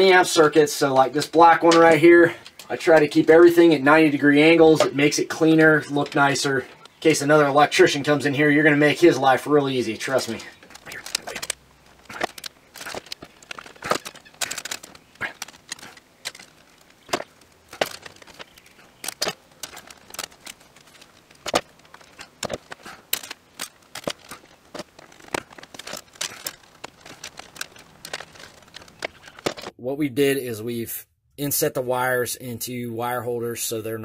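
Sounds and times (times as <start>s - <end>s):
stiff wire clicking and scraping: 0.0s - 29.8s.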